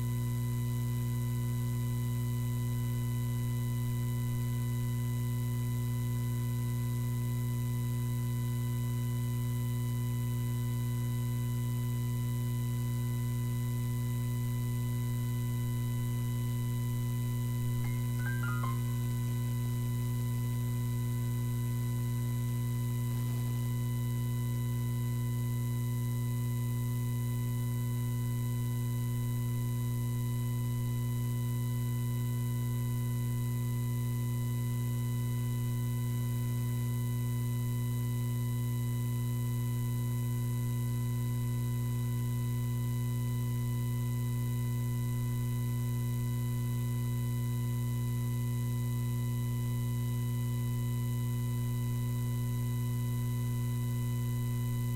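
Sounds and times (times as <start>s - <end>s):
electrical mains hum: 0.0s - 54.9s.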